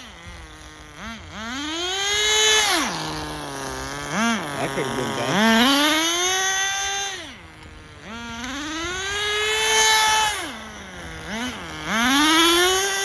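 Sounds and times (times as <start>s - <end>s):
small glow engine revving: 0.0s - 13.0s.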